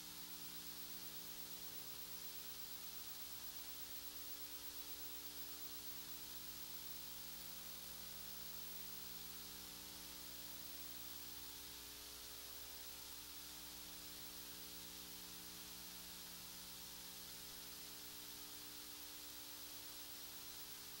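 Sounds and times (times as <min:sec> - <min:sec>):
faint steady hiss: 0:00.0 - 0:21.0
low electrical hum: 0:00.0 - 0:21.0.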